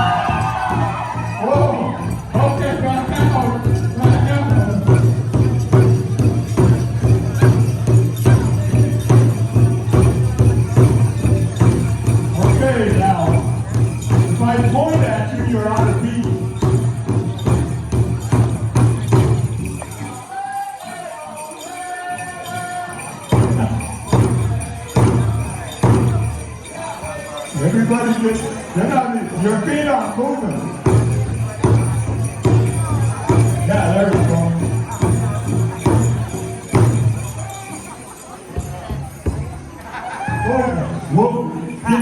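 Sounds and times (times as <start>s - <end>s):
drum beaten steadily: 0.0s - 42.0s
jingles rattling: 0.0s - 42.0s.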